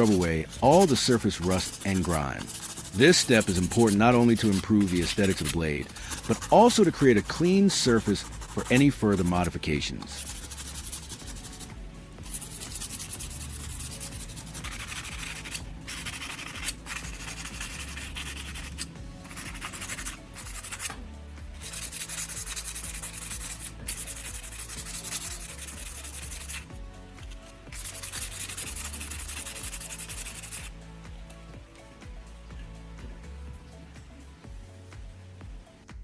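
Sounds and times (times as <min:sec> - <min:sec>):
sandpaper scrubbing metal: 0:00.0 - 0:30.7
background music: 0:00.0 - 0:36.0.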